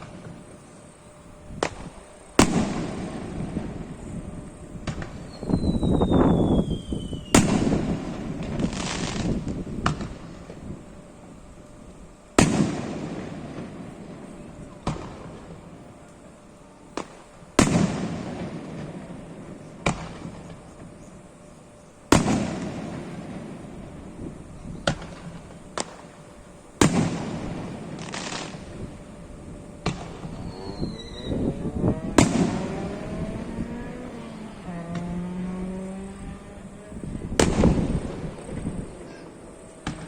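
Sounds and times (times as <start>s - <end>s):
fireworks sharp cracks: 0.0s - 0.9s, 1.5s - 21.3s, 22.0s - 40.0s
fireworks booming: 0.0s - 40.0s.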